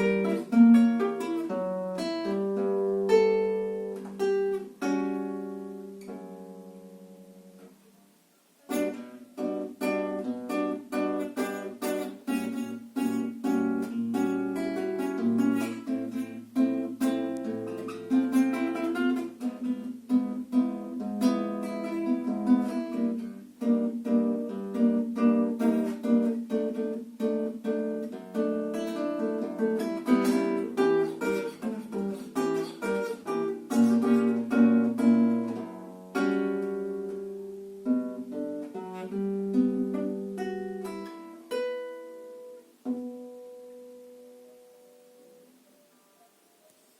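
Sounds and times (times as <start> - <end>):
fingerpicked acoustic guitar: 0.0 - 46.9.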